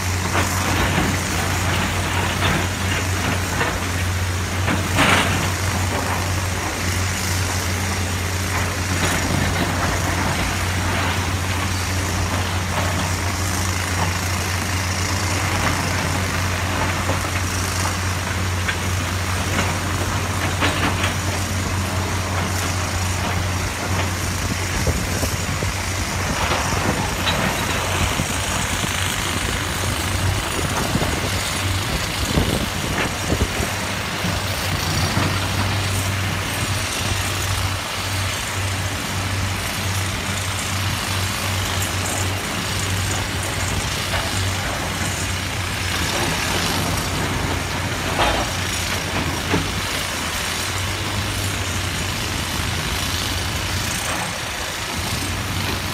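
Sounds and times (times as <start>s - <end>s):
diesel machinery engine drone: 0.0s - 55.9s.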